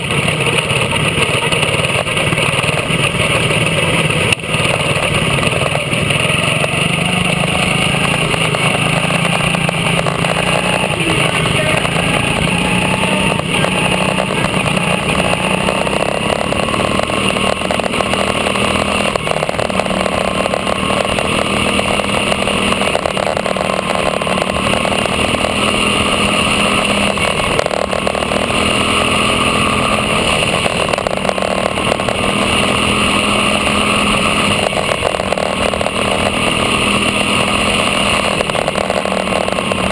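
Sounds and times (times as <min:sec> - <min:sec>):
other race car engines: 0:00.0 - 0:39.9
small race car engine droning: 0:00.0 - 0:39.9.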